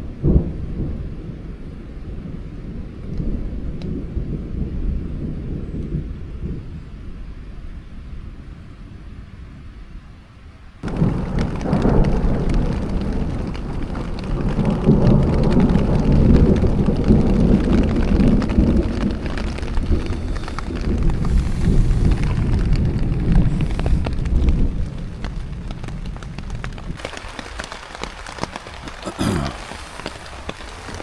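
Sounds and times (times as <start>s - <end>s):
heavy rain: 0.0s - 8.6s, 10.6s - 31.0s
thunder rumbling: 0.0s - 9.1s, 10.8s - 31.0s.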